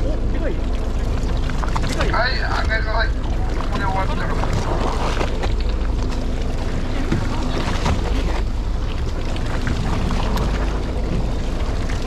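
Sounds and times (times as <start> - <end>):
boat engine rumbling: 0.0 - 12.0
sea washing along hull: 0.0 - 12.0.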